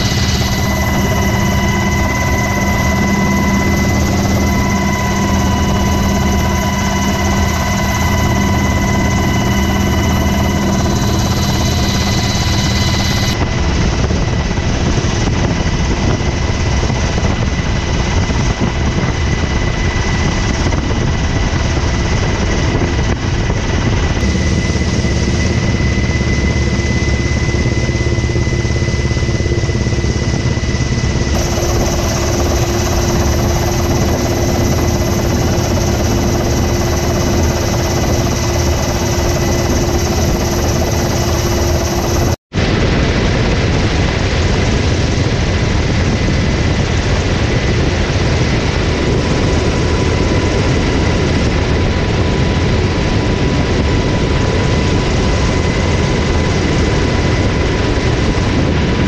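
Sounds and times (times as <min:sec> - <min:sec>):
helicopter rotor and engine noise: 0:00.0 - 0:59.0
high turbine whine: 0:00.0 - 0:59.0.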